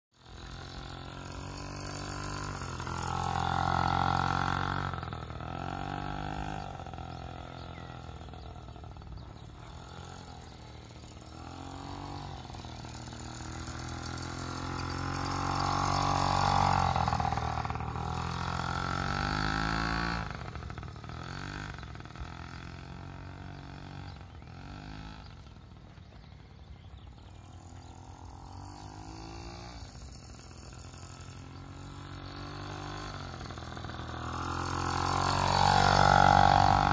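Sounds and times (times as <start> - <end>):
small motocross bike engine: 0.1 - 36.9.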